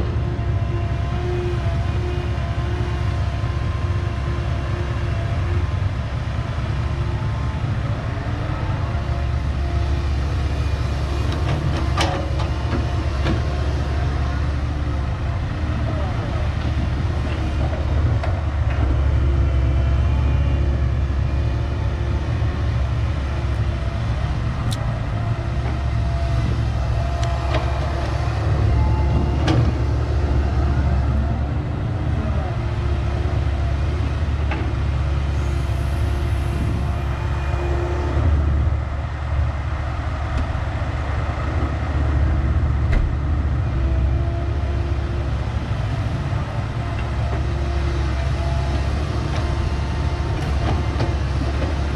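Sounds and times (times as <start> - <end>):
diesel engine rumbling: 0.0 - 51.9.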